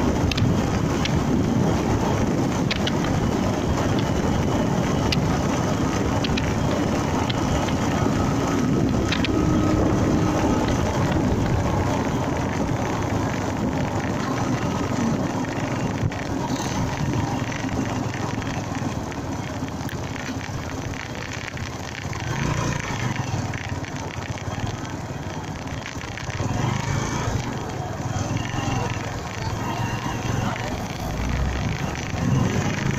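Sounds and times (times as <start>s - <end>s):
motorcycle engine running: 0.0s - 32.9s
passing traffic: 0.0s - 32.9s
road and wind noise: 0.0s - 32.9s.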